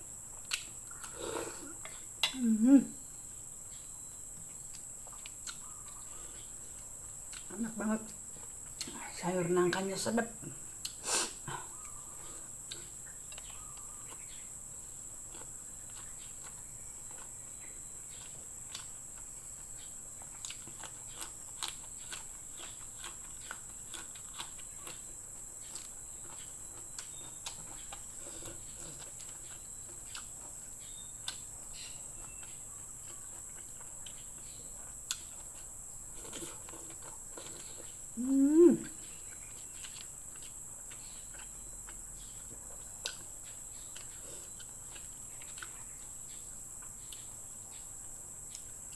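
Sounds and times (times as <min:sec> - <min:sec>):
insects chirring: 0:00.0 - 0:48.9
person chewing and lip-smacking: 0:00.3 - 0:02.4, 0:04.7 - 0:07.5, 0:10.8 - 0:11.0, 0:11.6 - 0:47.3.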